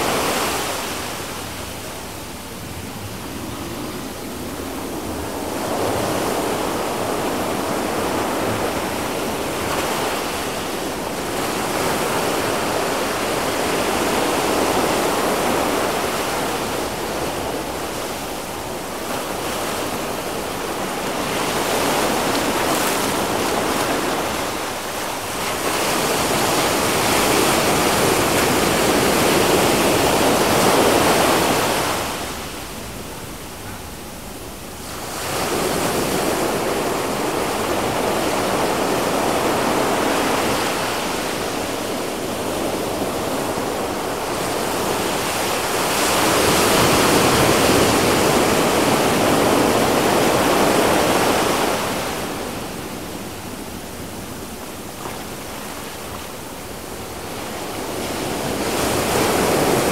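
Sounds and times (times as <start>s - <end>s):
waves washing up a beach: 0.0s - 59.9s.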